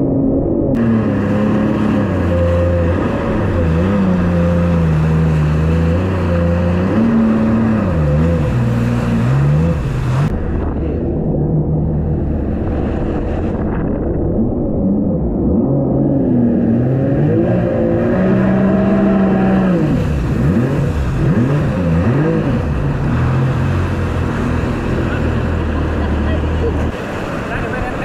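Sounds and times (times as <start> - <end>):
jet ski engine: 0.0 - 28.0
water and wind rushing: 0.0 - 28.0.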